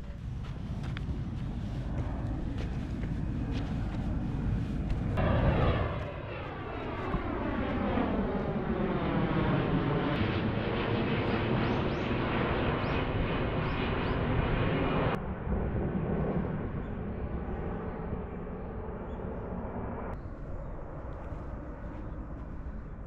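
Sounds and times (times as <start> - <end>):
airplane flying over: 0.0 - 23.0.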